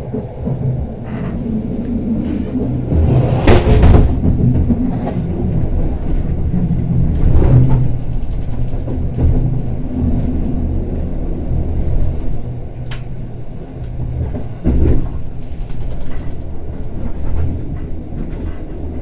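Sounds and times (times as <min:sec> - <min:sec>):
train rattling: 0:00.0 - 0:19.0
train rumbling on track: 0:00.0 - 0:19.0.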